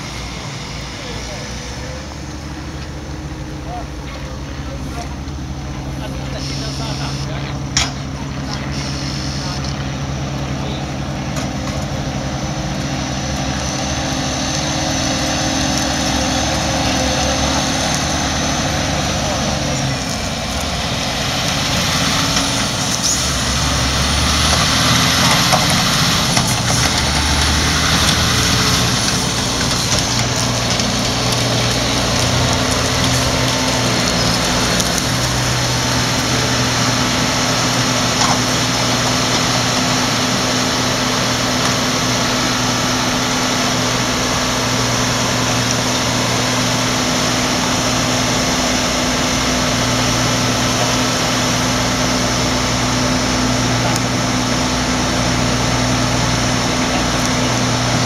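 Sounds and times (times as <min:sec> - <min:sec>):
diesel engines humming: 0:00.0 - 0:58.0.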